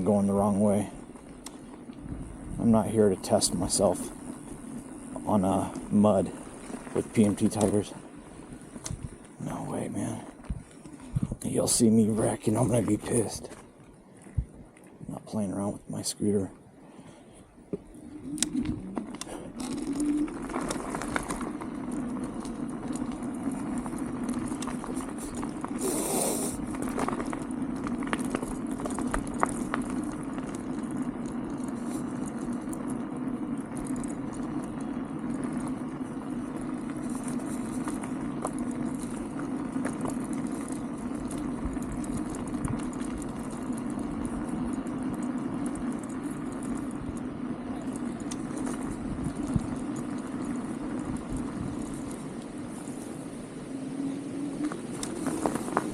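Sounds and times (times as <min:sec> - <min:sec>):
electric scooter motor and tyre hum: 0:00.0 - 0:55.9
rattles and ticks: 0:00.0 - 0:55.9.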